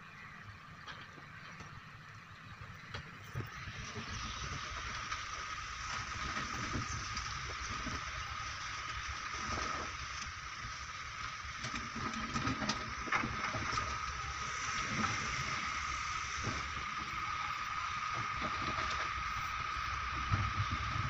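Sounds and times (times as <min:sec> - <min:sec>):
heavy machinery engine rumble: 0:00.0 - 0:21.0
high whine and hiss: 0:00.0 - 0:21.0.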